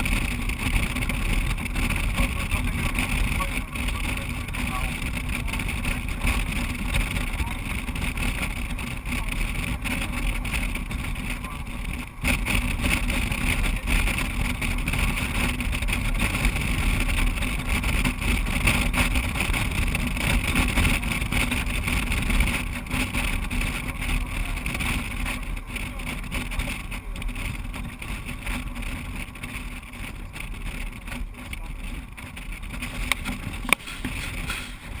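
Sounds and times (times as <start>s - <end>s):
vehicle engine and wind noise: 0.0s - 35.0s.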